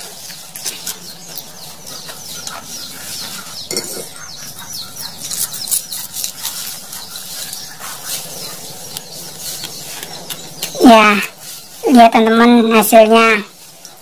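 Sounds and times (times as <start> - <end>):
low bird cluck: 0.0 - 11.8
birds chirping: 0.0 - 14.0.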